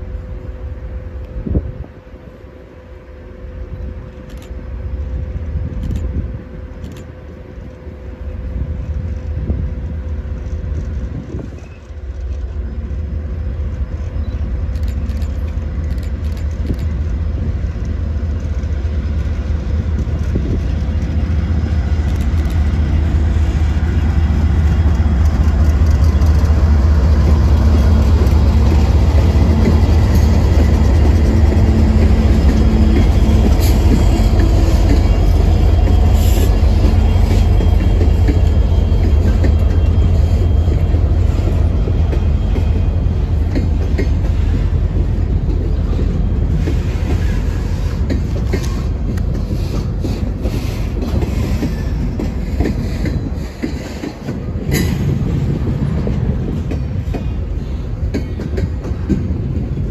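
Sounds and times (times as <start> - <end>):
diesel locomotives rumbling: 0.0 - 59.9.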